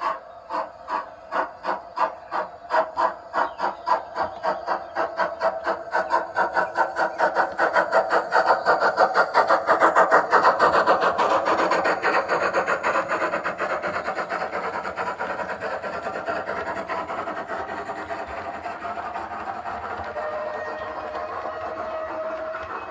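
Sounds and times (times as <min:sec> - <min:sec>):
steam locomotive exhaust chuffs: 0:00.0 - 0:22.9.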